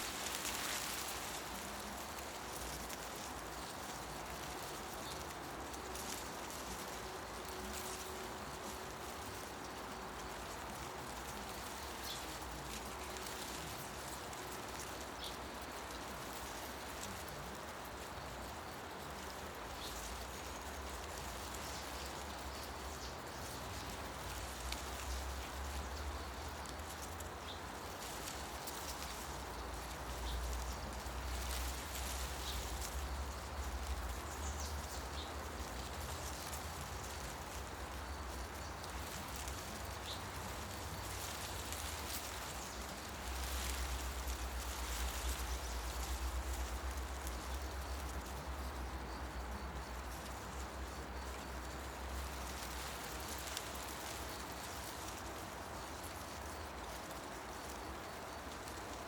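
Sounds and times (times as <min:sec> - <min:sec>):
leaves rustling in wind: 0:00.0 - 0:59.0.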